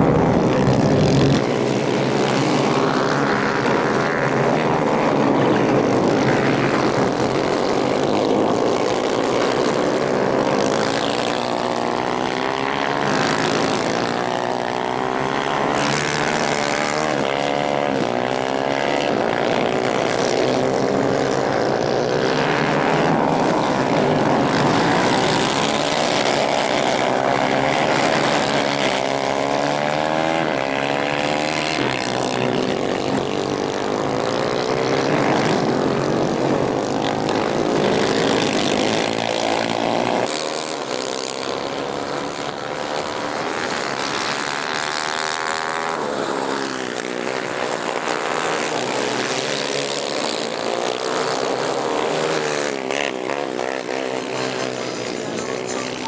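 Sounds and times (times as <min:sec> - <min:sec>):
kart engines buzzing: 0:00.0 - 0:56.0.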